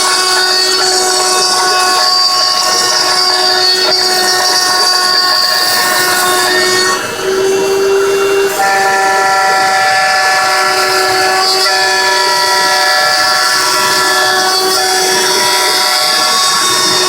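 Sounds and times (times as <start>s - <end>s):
machine motors whining: 0.0s - 17.0s.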